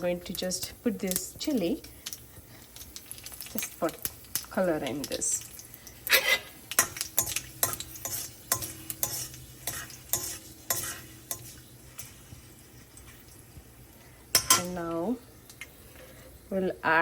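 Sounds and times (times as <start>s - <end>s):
seeds sizzling in hot oil: 0.0s - 17.0s.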